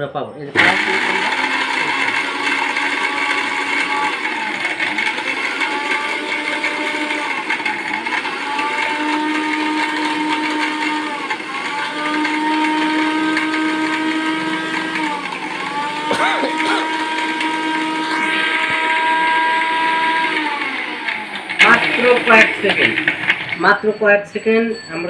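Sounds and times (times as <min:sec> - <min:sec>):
mixer grinder motor whine: 0:00.5 - 0:25.0.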